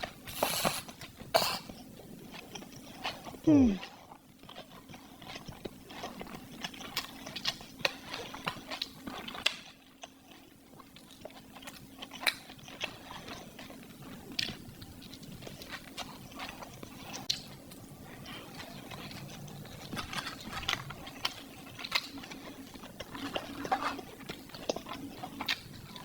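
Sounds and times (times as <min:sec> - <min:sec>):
person chewing and biting food: 0:00.0 - 0:03.8, 0:04.5 - 0:26.0.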